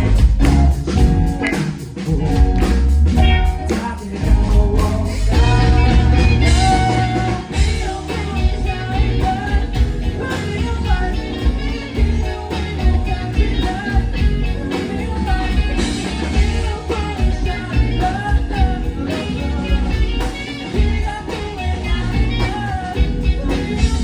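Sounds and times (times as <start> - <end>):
bass guitar: 0.0 - 24.0
drums: 0.0 - 24.0
electric guitar: 0.0 - 24.0
person singing: 0.0 - 24.0.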